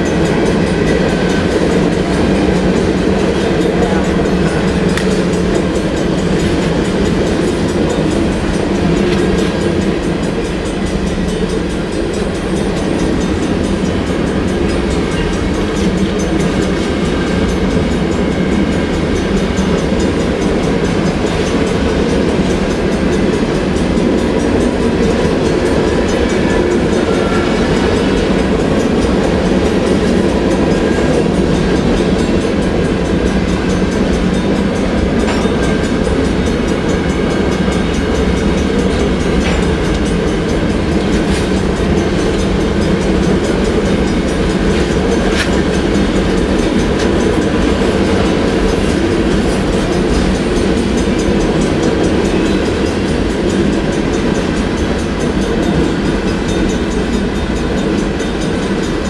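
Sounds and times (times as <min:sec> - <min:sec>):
freight train wheels rumbling: 0:00.0 - 0:59.0
wheels clickety-clack: 0:00.0 - 0:59.0.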